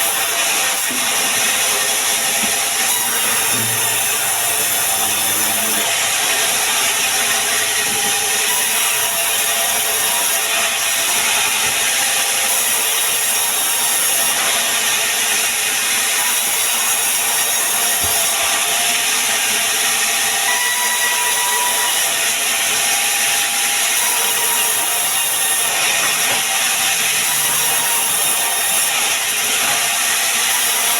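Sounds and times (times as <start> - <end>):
saw cutting through timber: 0.0 - 30.9.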